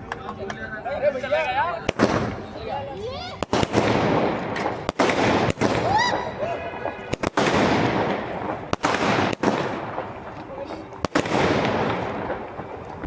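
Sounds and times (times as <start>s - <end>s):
fireworks bangs: 0.0s - 13.0s
fireworks hiss and crackle: 1.2s - 13.0s.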